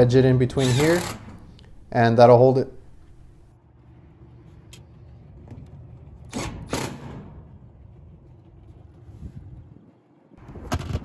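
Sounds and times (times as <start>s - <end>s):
low steady rumble: 1.2s - 10.7s.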